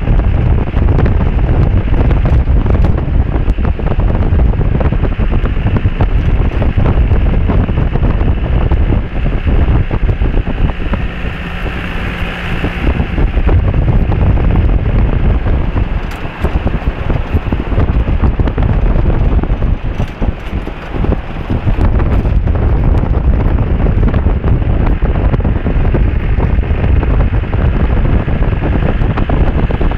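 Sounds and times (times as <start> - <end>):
vehicle driving on sand and gravel: 0.0 - 29.9
wind buffeting microphone: 0.0 - 29.9.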